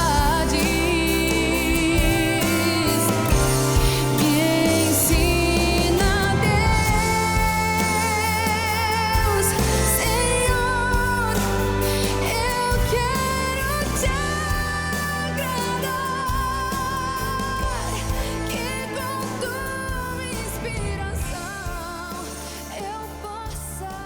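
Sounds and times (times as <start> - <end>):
pop worship song: 0.0 - 24.0.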